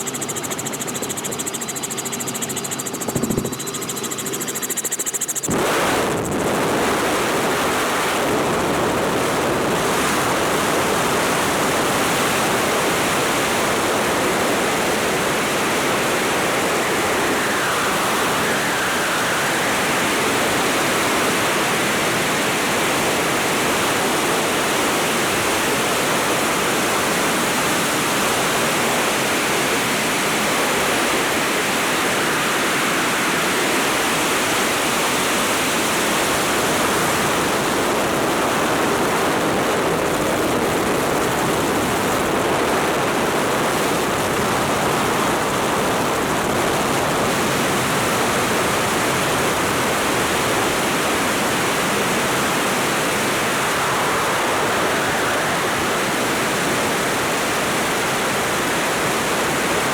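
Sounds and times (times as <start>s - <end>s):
helicopter running noise: 0.0s - 59.9s
wind rushing over microphone: 0.0s - 59.9s.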